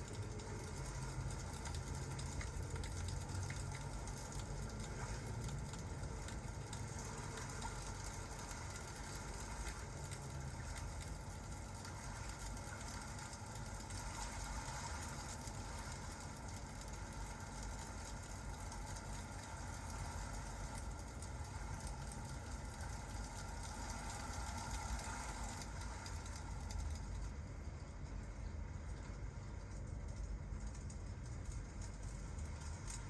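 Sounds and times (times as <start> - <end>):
fireplace crackling: 0.0 - 33.0
rain: 0.0 - 33.0.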